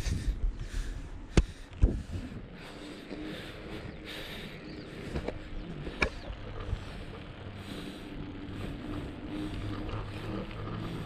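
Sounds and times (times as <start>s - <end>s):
bicycle tyres rumbling on asphalt: 0.0s - 11.0s.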